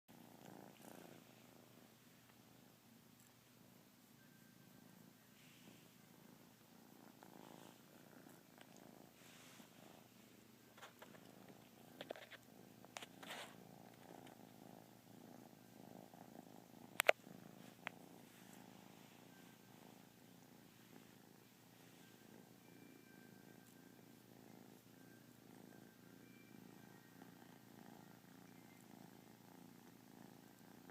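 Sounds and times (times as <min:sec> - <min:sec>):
kitten purring: 0:00.1 - 0:30.9.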